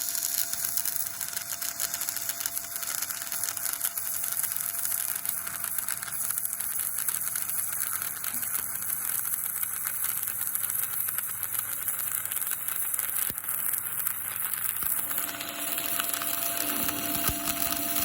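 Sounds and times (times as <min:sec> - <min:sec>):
arc welding crackling sizzle: 0:00.0 - 0:18.0.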